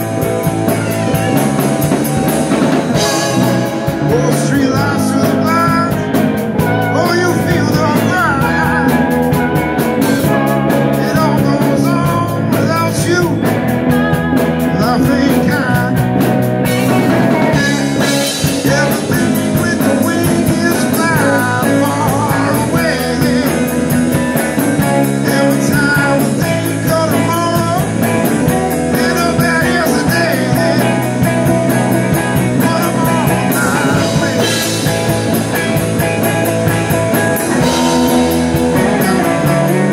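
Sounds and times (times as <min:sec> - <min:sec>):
drum kit: 0:00.0 - 0:39.9
electric bass: 0:00.0 - 0:39.9
electric guitars: 0:00.0 - 0:39.9.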